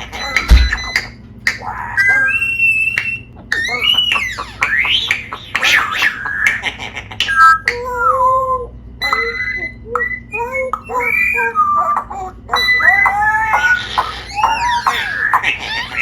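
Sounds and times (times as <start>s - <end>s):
parrot chattering and squawking: 0.0s - 16.0s.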